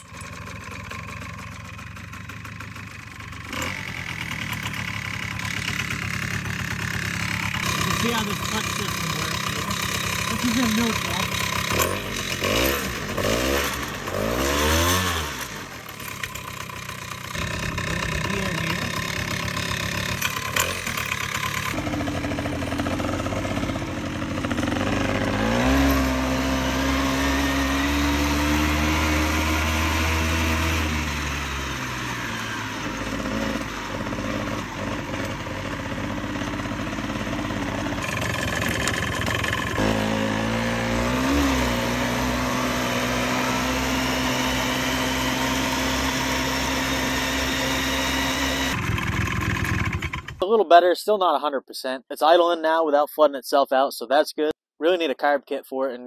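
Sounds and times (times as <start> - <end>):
small engine idling and revving: 0.0 - 50.4.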